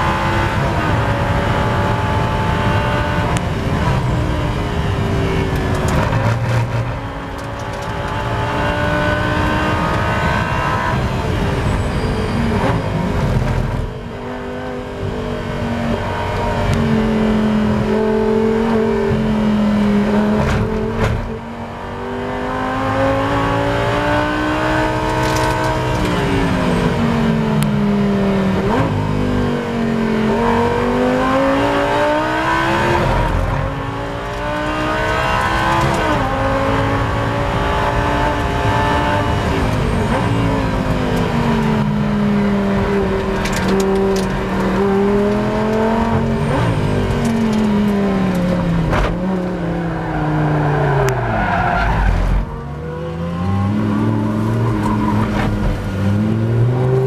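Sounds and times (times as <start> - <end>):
race car engine: 0.0 - 57.0.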